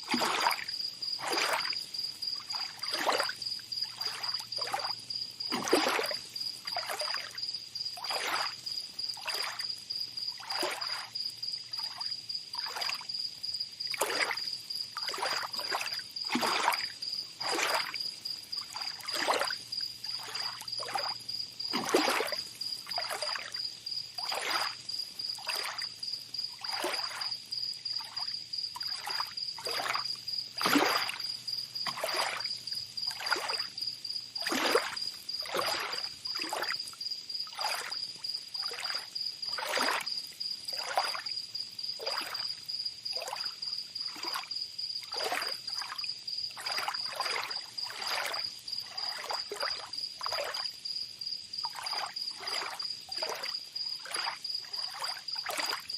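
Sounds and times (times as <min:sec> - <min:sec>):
small waves lapping at shore: 0:00.0 - 0:13.1, 0:13.7 - 0:50.8, 0:51.6 - 0:55.9
high insect trill: 0:00.0 - 0:55.9.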